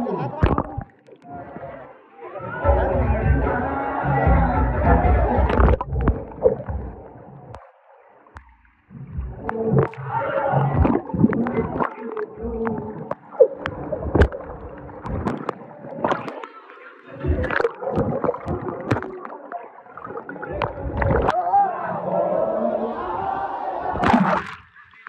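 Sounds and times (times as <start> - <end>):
muffled underwater gurgling: 0.0 - 1.9, 4.4 - 7.7, 8.4 - 25.0.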